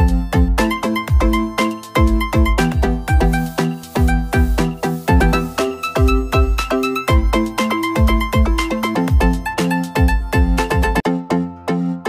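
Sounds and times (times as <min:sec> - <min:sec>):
kick drum beat: 0:00.0 - 0:11.0
held chords: 0:00.0 - 0:12.0.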